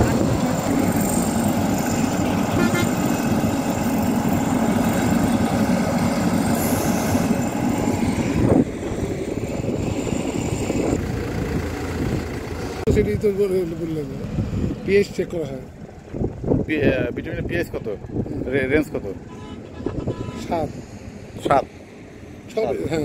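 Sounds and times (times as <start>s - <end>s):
heavy construction machinery running: 0.0s - 23.0s.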